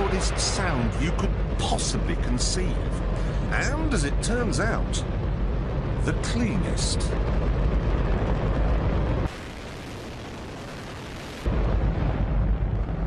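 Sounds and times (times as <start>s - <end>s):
rocket engine rumbling roar: 0.0s - 13.0s.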